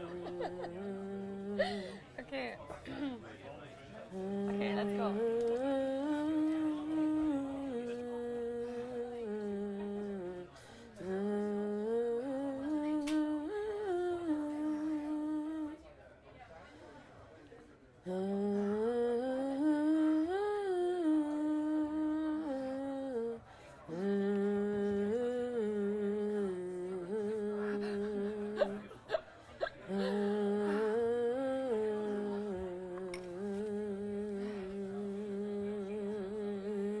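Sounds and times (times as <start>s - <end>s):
person humming a slow melody: 0.0s - 2.0s, 4.1s - 15.8s, 18.1s - 28.9s, 29.8s - 37.0s.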